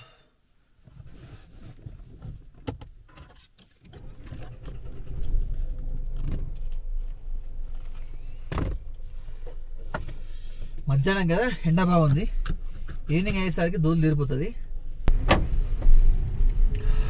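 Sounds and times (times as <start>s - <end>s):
car engine and road rumble: 0.4s - 17.0s.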